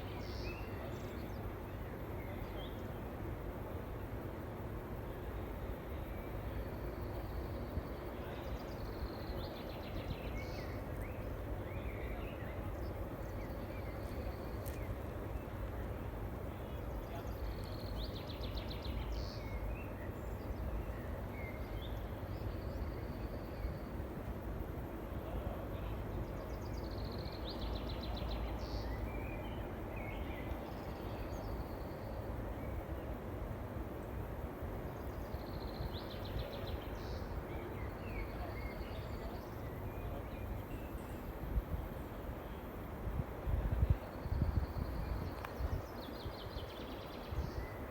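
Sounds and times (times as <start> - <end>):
songbirds chirping and trilling: 5.9 - 33.8, 34.6 - 47.9.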